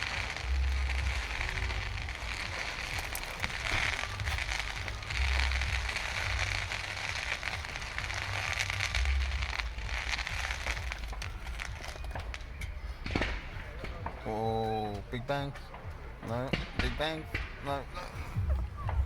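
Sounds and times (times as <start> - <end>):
fireworks crackling: 0.0 - 19.0
fireworks low rumbles: 0.0 - 19.0.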